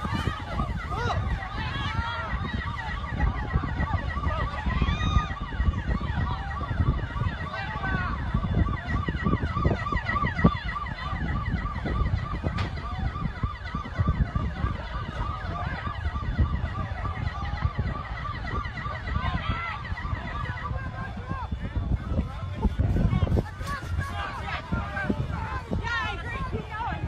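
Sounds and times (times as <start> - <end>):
siren yelping: 0.0 - 27.0.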